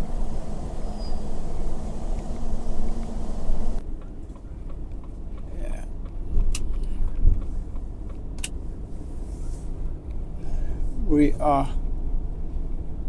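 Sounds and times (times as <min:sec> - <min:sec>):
lorry engine and road rumble: 0:00.0 - 0:13.0.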